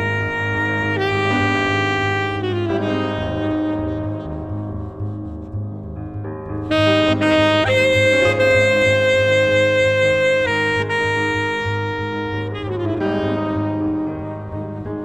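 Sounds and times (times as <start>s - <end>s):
saxophone: 0.0s - 6.0s, 6.6s - 15.0s
bass: 0.0s - 15.0s
piano: 0.0s - 15.0s.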